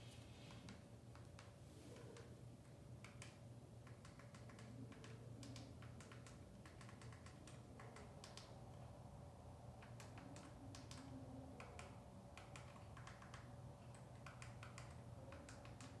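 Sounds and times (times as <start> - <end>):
low steady hum: 0.0 - 16.0
light taps and clicks: 0.5 - 8.8, 9.8 - 16.0.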